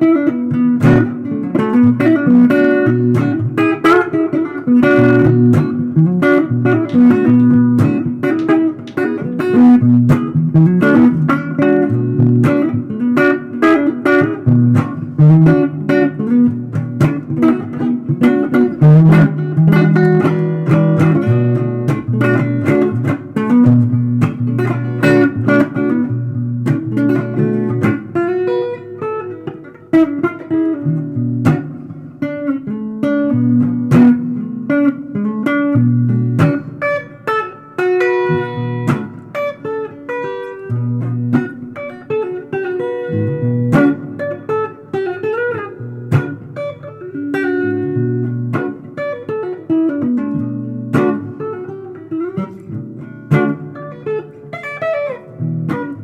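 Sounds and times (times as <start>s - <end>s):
bluesy guitar improvising: 0.0s - 56.0s.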